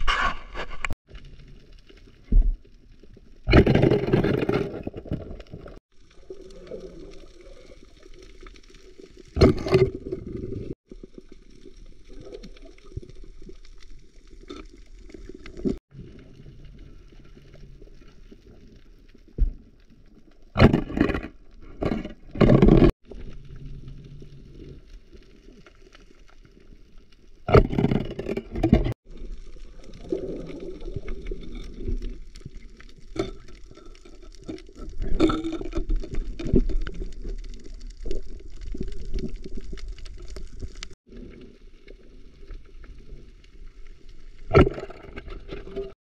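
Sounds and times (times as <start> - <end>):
steady underwater noise: 0.0 - 46.0.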